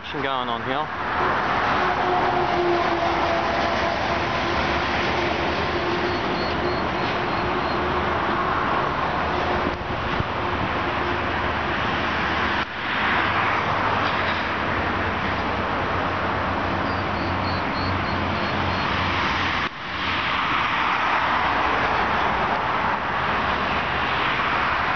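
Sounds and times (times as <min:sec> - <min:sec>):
road traffic noise: 0:00.0 - 0:24.9.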